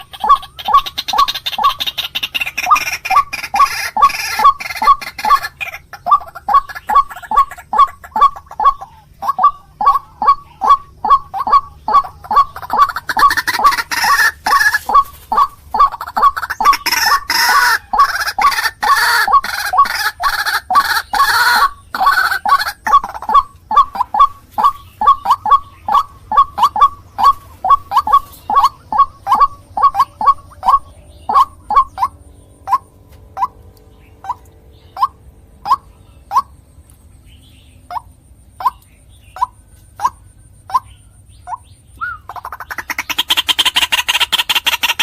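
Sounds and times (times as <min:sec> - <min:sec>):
waterhen calling: 0:00.0 - 0:36.6, 0:37.8 - 0:45.0
harsh overlapping bird calls: 0:00.0 - 0:45.0.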